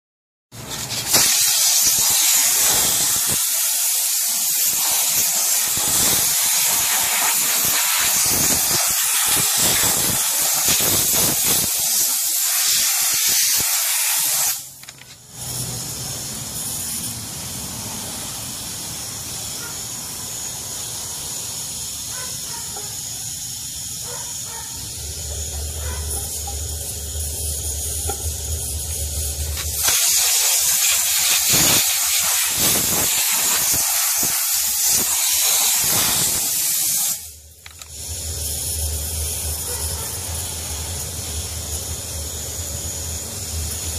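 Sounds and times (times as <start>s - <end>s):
steam cleaner hissing: 0.6s - 43.9s.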